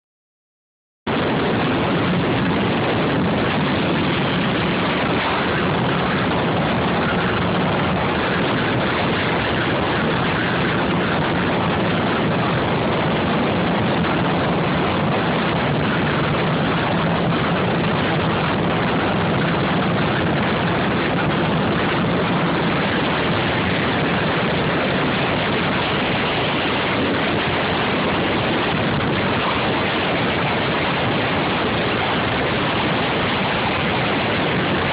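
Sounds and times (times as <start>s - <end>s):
engine and road noise: 1.1s - 34.9s.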